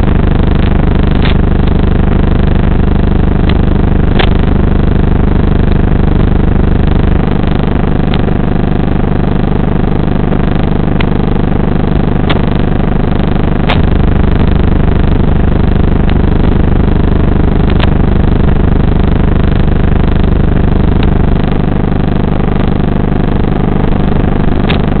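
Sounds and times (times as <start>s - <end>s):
loud electrical buzz: 0.0s - 25.0s.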